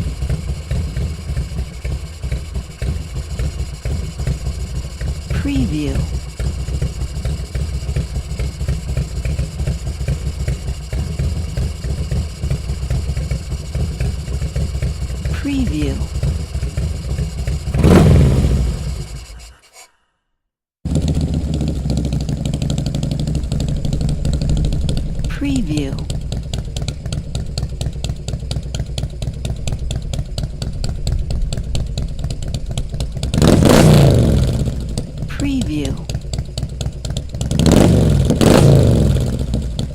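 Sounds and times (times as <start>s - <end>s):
motorcycle engine idling: 0.0s - 19.5s, 20.9s - 39.9s.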